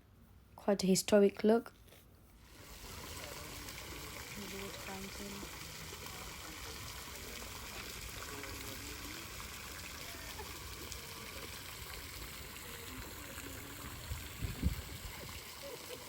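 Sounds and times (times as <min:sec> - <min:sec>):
water fountain splashing: 0:02.4 - 0:16.0.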